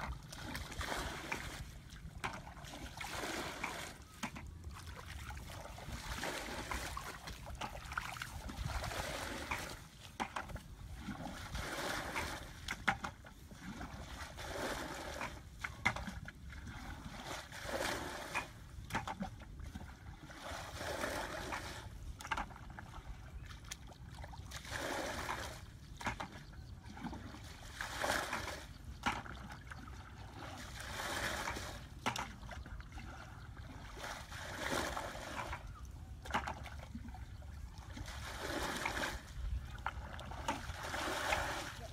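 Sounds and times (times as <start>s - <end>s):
muddy water splashing: 0.0s - 41.9s.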